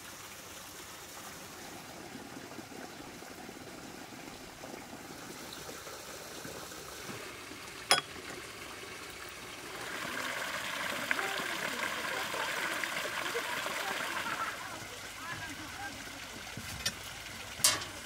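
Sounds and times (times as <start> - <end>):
stream water trickling: 0.0 - 18.0.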